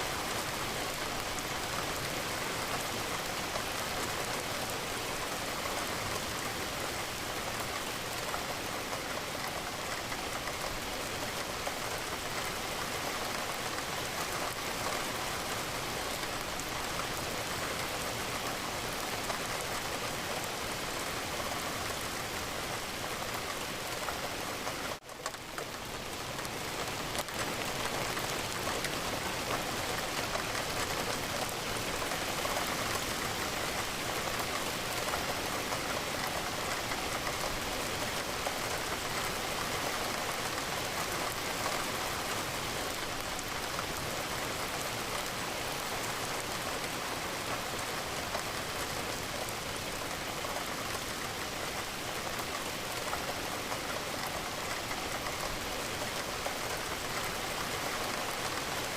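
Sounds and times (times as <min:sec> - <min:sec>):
rain falling against a window: 0:00.0 - 0:58.9.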